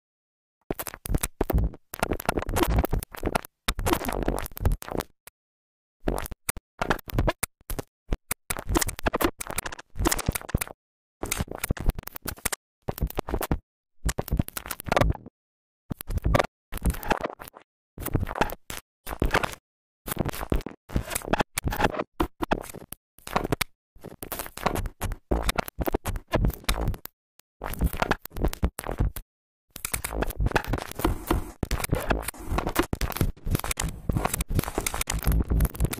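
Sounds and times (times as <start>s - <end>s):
scratchy crackling noise bursts: 0.7s - 5.2s, 6.0s - 15.3s, 16.0s - 29.2s, 29.8s - 35.9s.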